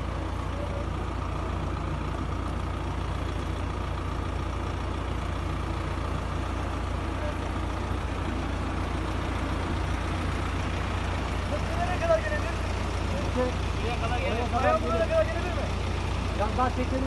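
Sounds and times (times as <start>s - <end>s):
heavy vehicle engine idling: 0.0s - 17.0s.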